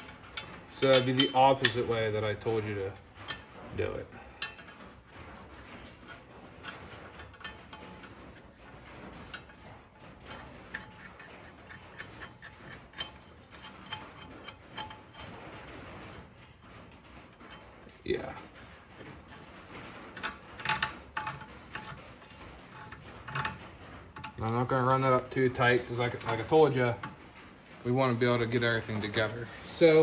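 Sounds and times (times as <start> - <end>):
small metal clicks and scrapes: 0.0 - 30.0.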